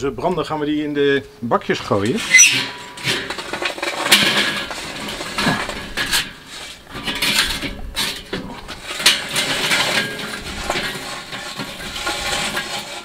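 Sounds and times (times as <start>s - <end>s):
charcoal lumps clattering on metal: 1.7s - 13.0s.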